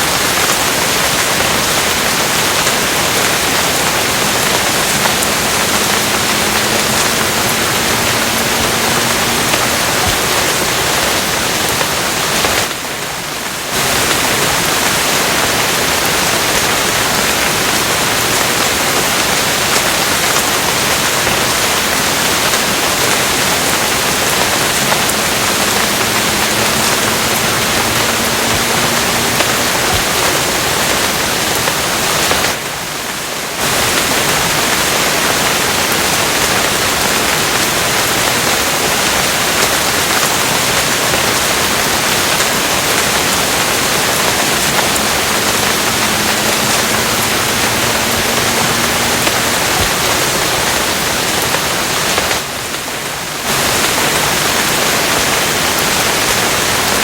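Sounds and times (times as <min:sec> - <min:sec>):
dense rainfall: 0:00.0 - 0:57.0.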